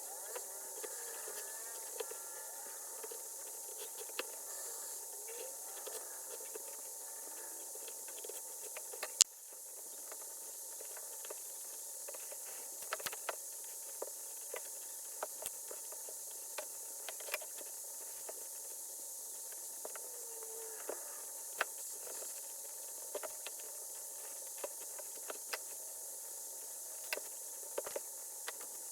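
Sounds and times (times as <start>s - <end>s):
steady hiss: 0.0s - 28.9s.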